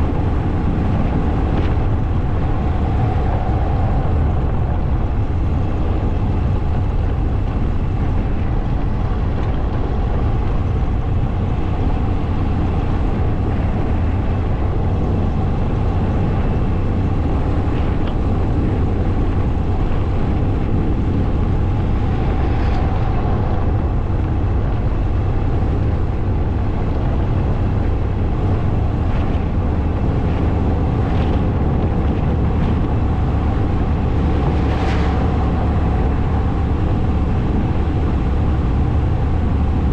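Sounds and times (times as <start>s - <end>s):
motorcycle riding noise: 0.0s - 39.9s.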